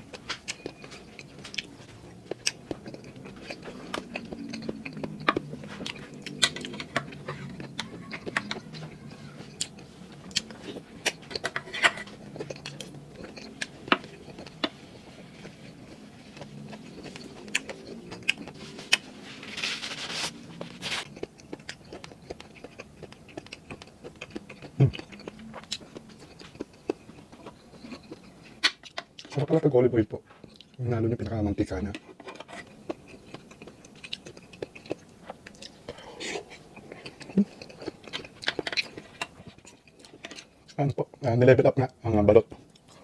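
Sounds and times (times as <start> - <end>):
wet chewing and mouth smacking: 0.0 - 19.2, 20.3 - 29.3, 32.4 - 41.2.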